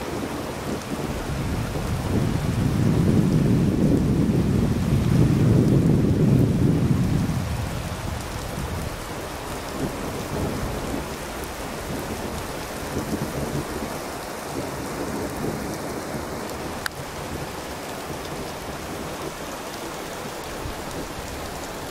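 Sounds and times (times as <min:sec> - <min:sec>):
thunder rumble: 0:00.0 - 0:19.6
heavy rain on road: 0:00.0 - 0:21.9.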